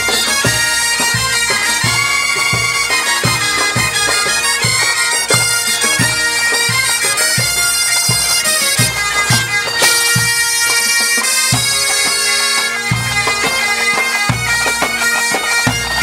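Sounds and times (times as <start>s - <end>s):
bagpipe melody with drones: 0.0s - 16.0s.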